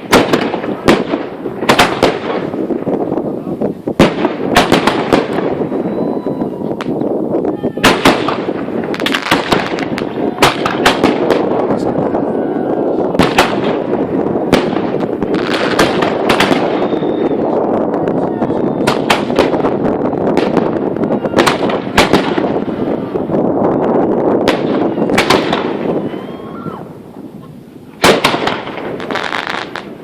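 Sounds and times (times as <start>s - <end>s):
sharp firework bangs: 0.0s - 3.2s, 3.9s - 12.0s, 12.9s - 23.5s, 24.3s - 26.1s, 28.0s - 30.0s
rumble of bursting fireworks: 0.0s - 30.0s.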